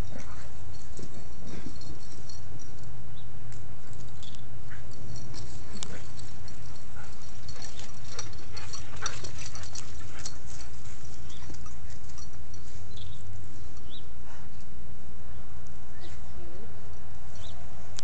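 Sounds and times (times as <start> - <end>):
clicks and jingles: 0.0 - 14.7, 16.9 - 18.0.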